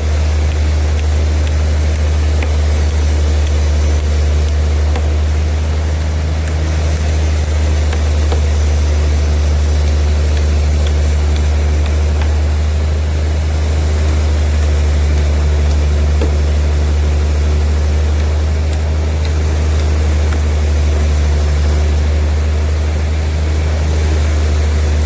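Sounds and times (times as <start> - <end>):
sawmill machinery humming: 0.0 - 25.0.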